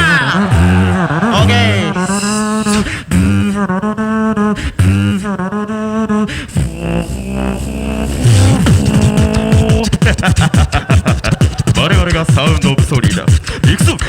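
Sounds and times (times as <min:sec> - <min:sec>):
beatboxing: 0:00.0 - 0:03.7, 0:06.2 - 0:14.0.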